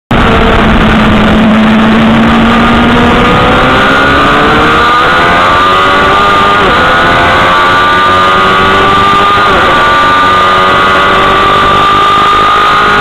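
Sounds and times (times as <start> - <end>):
loud wind rush: 0.1 - 13.0
motorcycle engine accelerating: 0.1 - 13.0.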